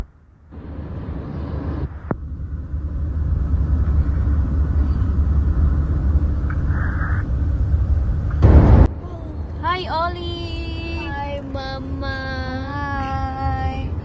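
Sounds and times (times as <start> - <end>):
low rumble of moving vehicle: 0.0 - 14.0.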